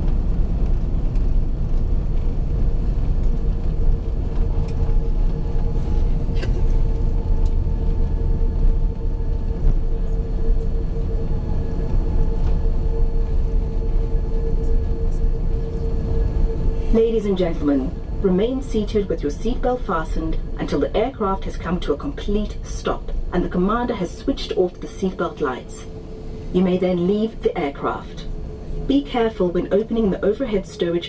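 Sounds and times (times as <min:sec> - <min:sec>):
jet engine hum: 0:00.0 - 0:31.0
low cabin rumble: 0:00.0 - 0:31.0.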